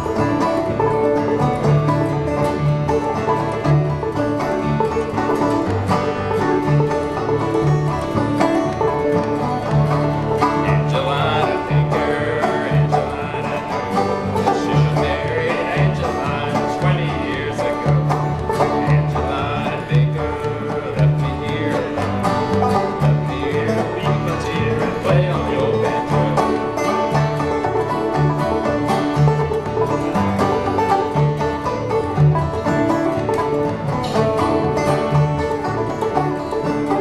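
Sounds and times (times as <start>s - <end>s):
acoustic guitar: 0.0s - 37.0s
banjo picking: 0.0s - 37.0s
steady bass line: 0.0s - 37.0s.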